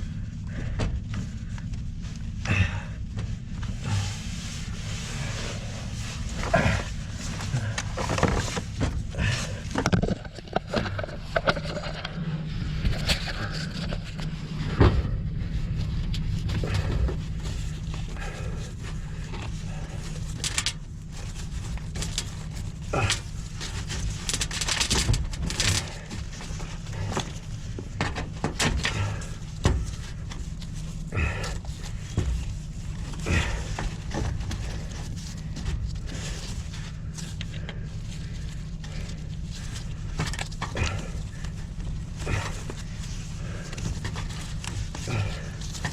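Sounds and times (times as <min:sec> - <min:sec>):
steady low hum: 0:00.0 - 0:45.9
handling knocks and scrapes: 0:03.1 - 0:45.9.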